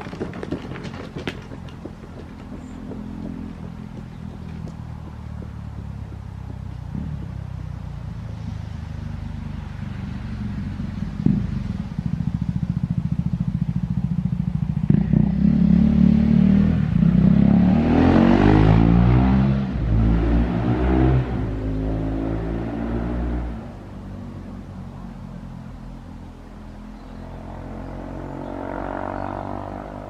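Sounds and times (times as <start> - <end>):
vehicle engine exhaust revving: 0.0 - 30.0.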